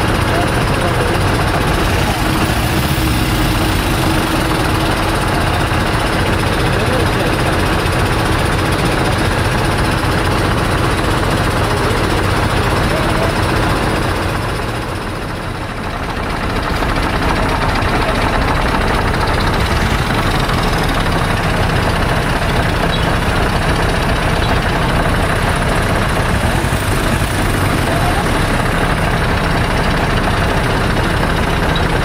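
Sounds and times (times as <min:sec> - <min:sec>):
road noise: 0:00.0 - 0:32.0
vehicle engine running: 0:00.0 - 0:32.0.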